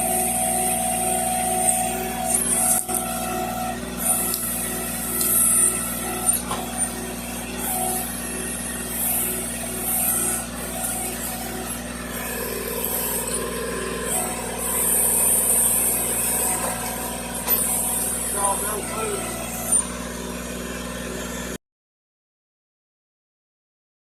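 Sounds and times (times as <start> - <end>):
tractor engine pulsing: 0.0 - 21.2.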